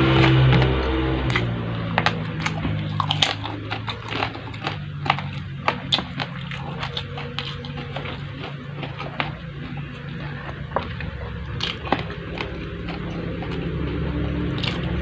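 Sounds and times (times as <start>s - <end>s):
crunchy chewing: 0.0s - 15.0s
low steady hum: 0.0s - 15.0s.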